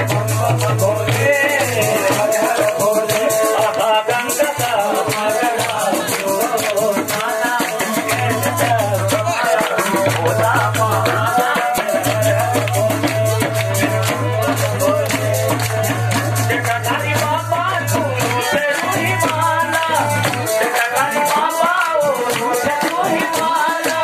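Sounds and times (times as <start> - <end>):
fast hand drum beat: 0.0 - 24.0
harmonium: 0.0 - 24.0
jingling rattling percussion: 0.0 - 24.0
person singing: 0.0 - 24.0.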